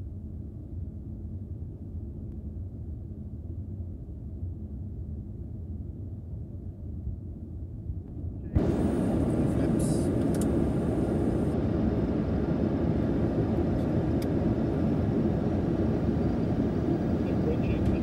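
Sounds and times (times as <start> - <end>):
airflow and engine rumble in cockpit: 0.0 - 18.0.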